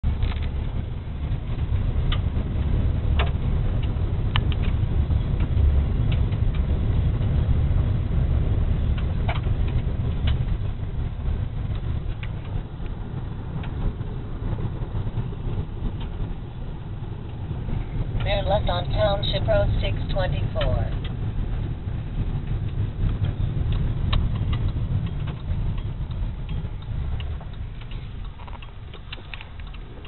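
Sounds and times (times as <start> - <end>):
car tyres and engine rumble: 0.0 - 30.0
gravel ticks: 0.0 - 30.0.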